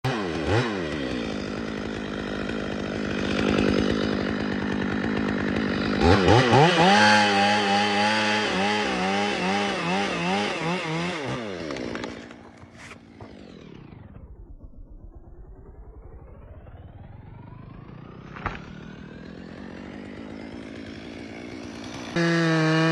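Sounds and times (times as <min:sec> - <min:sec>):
chainsaw engine cutting wood: 0:00.0 - 0:14.4, 0:17.1 - 0:22.9.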